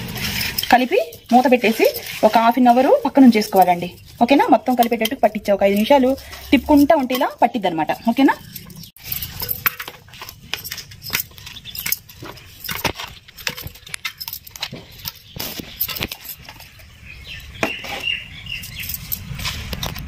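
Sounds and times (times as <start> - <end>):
hands mixing wet prawns: 0.0 - 19.8.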